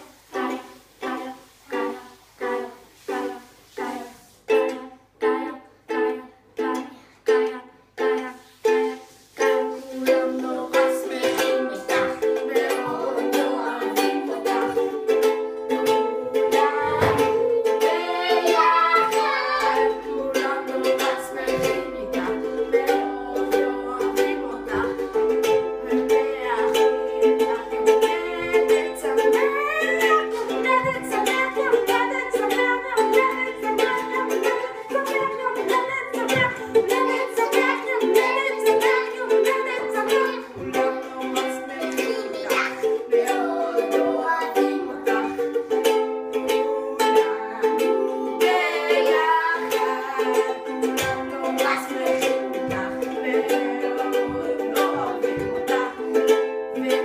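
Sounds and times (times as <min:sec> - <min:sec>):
boy singing: 0:00.0 - 0:57.0
ukulele strumming: 0:00.0 - 0:57.0.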